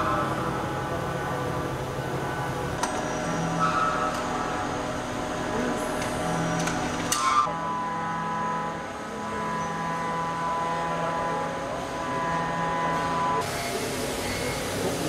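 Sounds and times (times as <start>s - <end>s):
workshop machinery hum: 0.0s - 15.0s.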